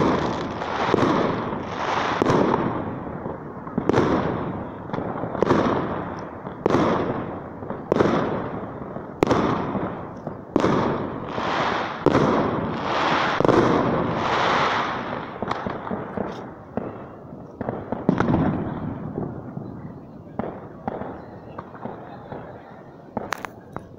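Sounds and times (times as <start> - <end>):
fireworks bangs with echo: 0.0 - 23.9
fireworks crackling: 0.0 - 23.9
small fireworks pops: 0.0 - 23.9.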